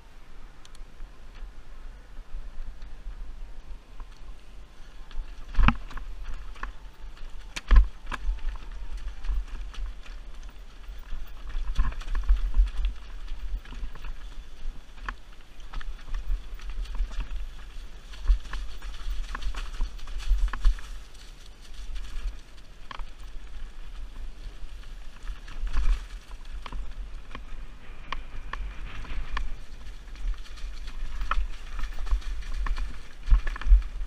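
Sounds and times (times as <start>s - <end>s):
low steady rumble: 0.0s - 34.0s
bike tyres and frame knocking: 4.9s - 34.0s.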